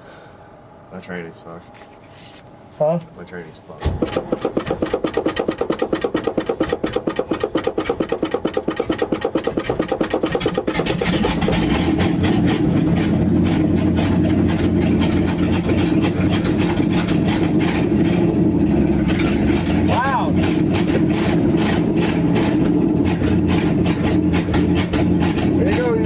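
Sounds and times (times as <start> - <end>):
truck engine cranking and starting: 3.8 - 26.0.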